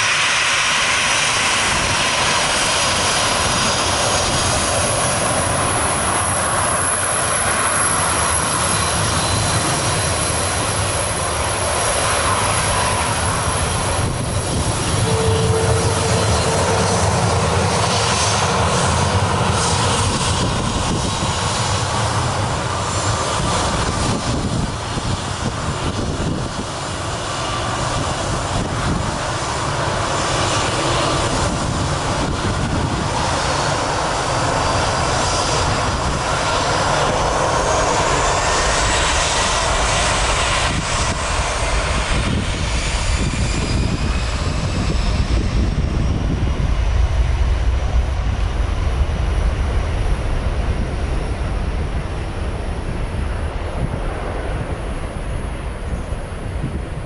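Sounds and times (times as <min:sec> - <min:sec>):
jet engines roaring and whining: 0:00.0 - 0:57.0.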